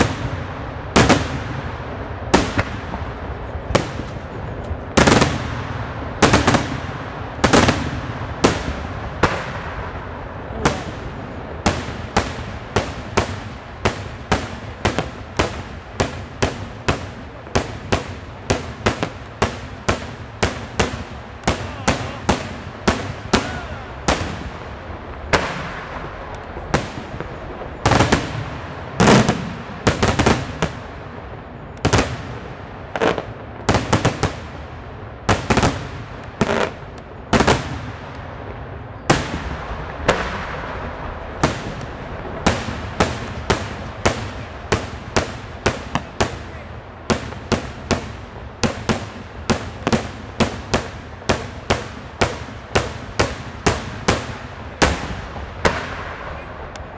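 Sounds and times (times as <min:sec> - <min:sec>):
fireworks bursting loud bangs: 0:00.0 - 0:56.9.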